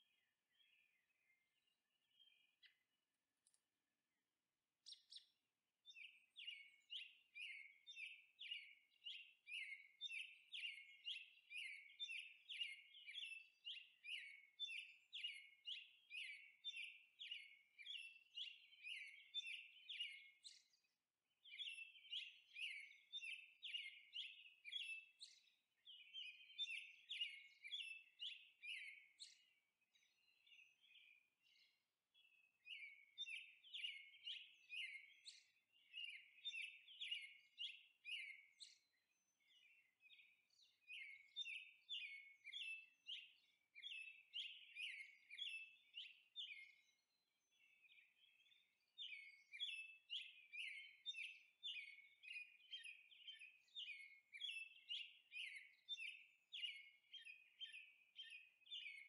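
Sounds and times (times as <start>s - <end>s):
faint bird chirping: 0.0s - 59.0s.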